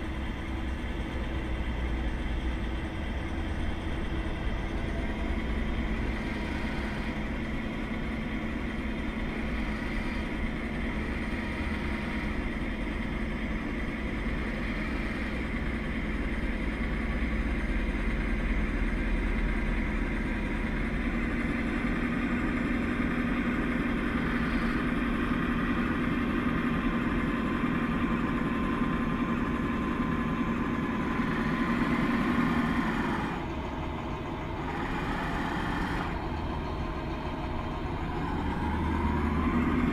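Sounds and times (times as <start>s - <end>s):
rc tractor motor whining: 3.7s - 17.1s, 20.5s - 39.9s.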